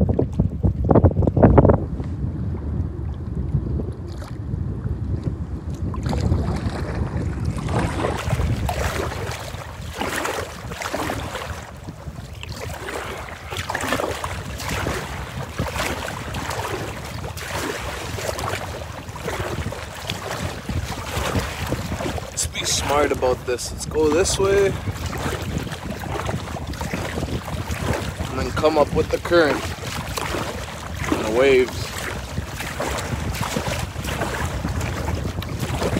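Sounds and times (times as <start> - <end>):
water splashing against kayak hull: 0.0 - 35.9
wind buffeting microphone: 0.0 - 35.9.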